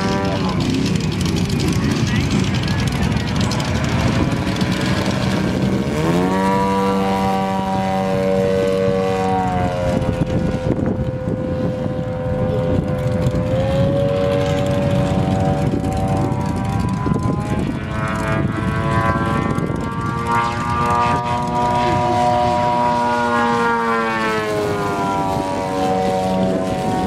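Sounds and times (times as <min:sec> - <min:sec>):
model airplane engine droning: 0:00.0 - 0:27.0.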